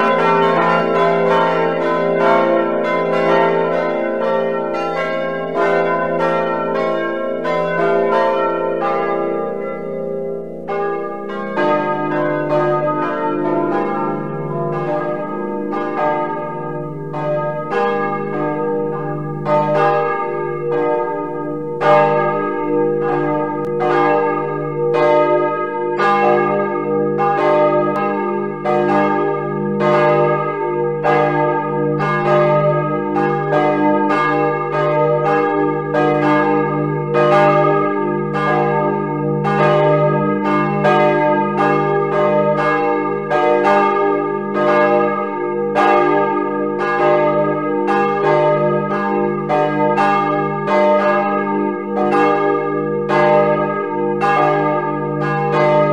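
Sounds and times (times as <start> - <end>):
church bells pealing: 0.0 - 55.9.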